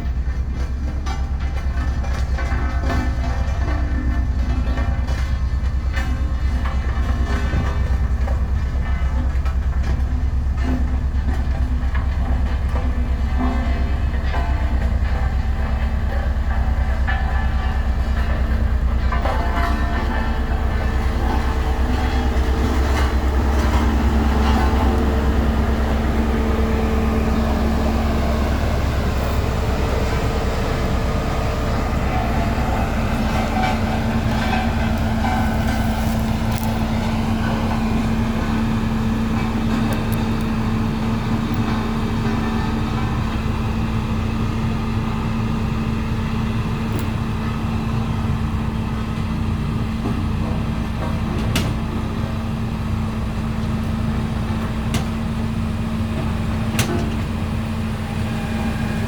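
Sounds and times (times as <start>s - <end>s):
heavy diesel machine running: 0.0s - 59.0s.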